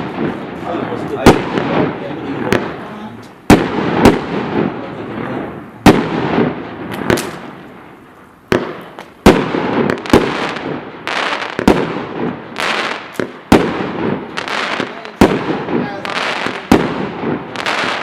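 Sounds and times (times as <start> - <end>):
dense firework crackle: 0.0 - 18.0
firework battery bangs: 0.0 - 18.0.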